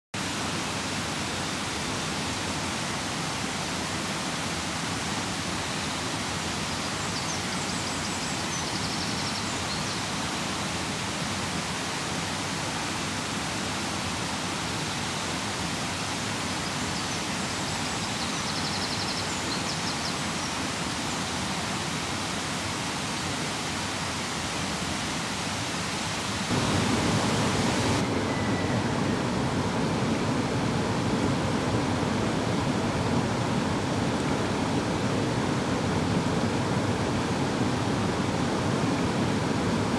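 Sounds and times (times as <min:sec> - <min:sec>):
fast-flowing stream rushing: 0:00.2 - 0:39.9.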